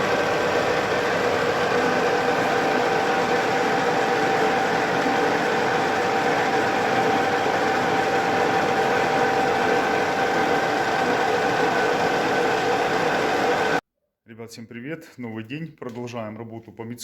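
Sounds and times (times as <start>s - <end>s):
metal lathe whirring: 0.0s - 13.8s.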